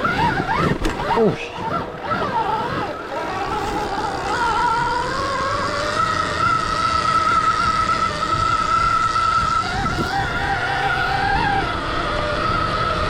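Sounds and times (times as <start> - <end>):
electric dirt bike motor whining: 0.0 - 13.0.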